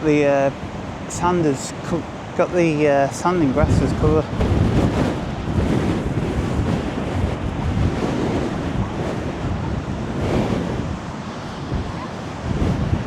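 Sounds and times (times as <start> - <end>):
rough sea breaking against wall: 0.0 - 13.0
strong wind buffeting microphone: 0.0 - 13.0.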